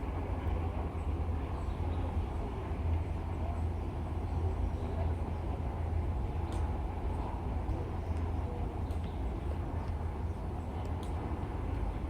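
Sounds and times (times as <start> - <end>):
electric train low rumble: 0.0 - 12.0.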